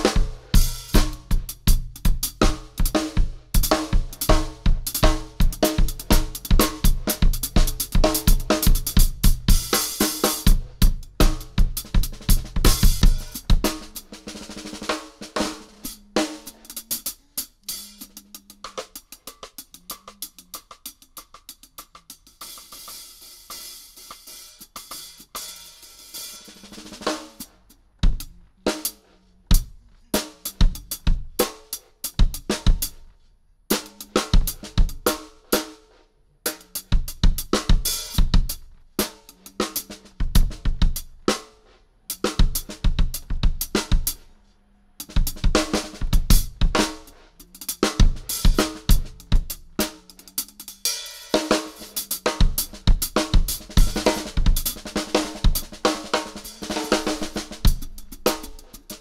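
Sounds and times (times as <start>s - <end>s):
drum kit playing: 0.0s - 33.0s, 33.7s - 44.3s, 45.0s - 59.0s.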